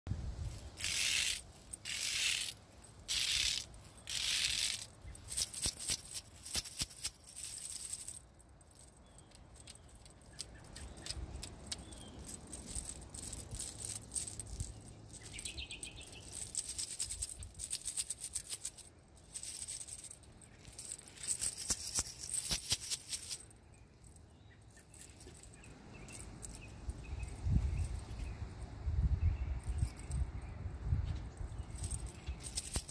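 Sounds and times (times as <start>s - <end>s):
metal scalemail gauntlets jingling: 0.1s - 28.4s, 29.6s - 30.5s, 31.3s - 32.9s.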